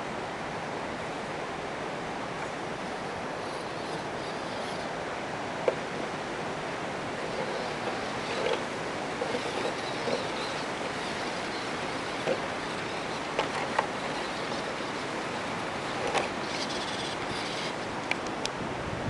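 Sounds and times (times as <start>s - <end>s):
wind hiss on microphone: 0.0s - 19.0s.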